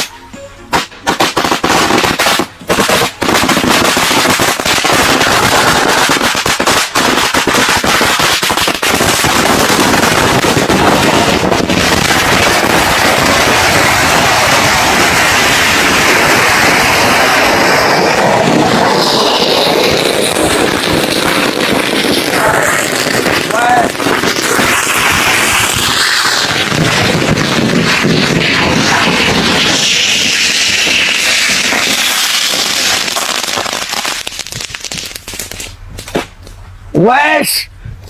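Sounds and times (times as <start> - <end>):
firecracker bangs: 0.7 - 36.4
firecrackers crackling: 0.7 - 37.4.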